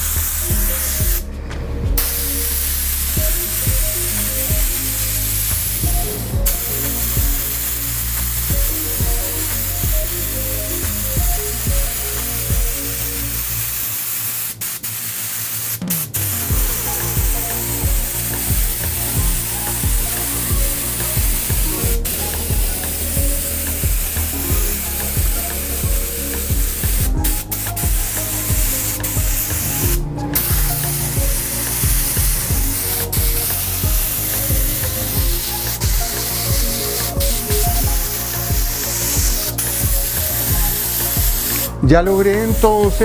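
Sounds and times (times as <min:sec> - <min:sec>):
airbrush spraying hiss: 0:00.0 - 0:01.3, 0:02.0 - 0:42.9
background music with beat: 0:00.0 - 0:14.4, 0:15.5 - 0:43.0.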